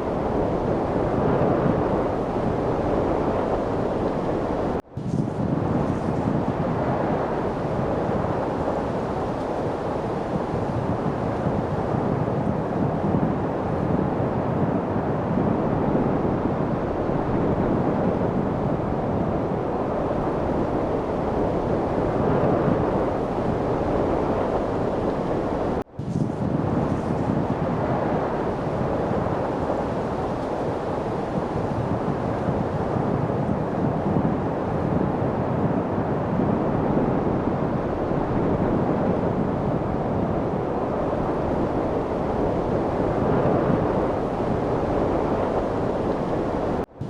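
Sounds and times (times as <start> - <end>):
light wind: 0.0 - 47.0.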